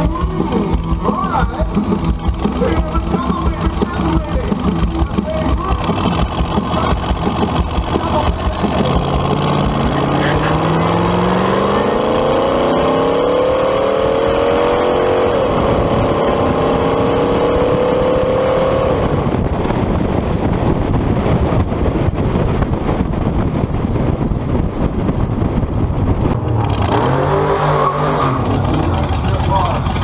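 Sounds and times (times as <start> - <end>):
car engine accelerating: 0.0 - 30.0
wind and road noise: 0.0 - 30.0.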